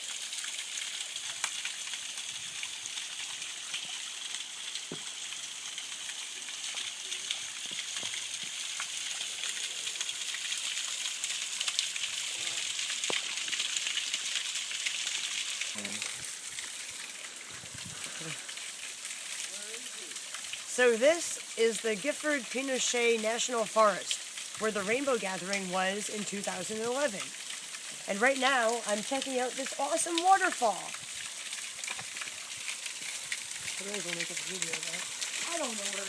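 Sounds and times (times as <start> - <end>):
small waterfall rushing: 0.0 - 36.0.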